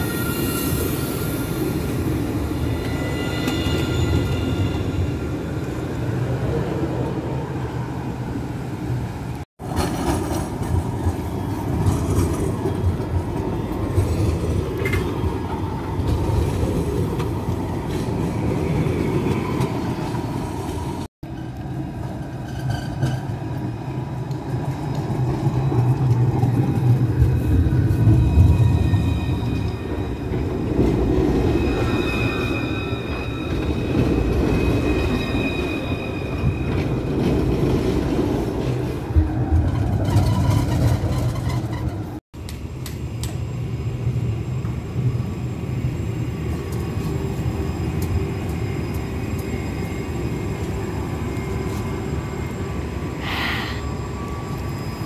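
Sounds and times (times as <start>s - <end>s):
tram rumbling on rails: 0.0s - 55.0s.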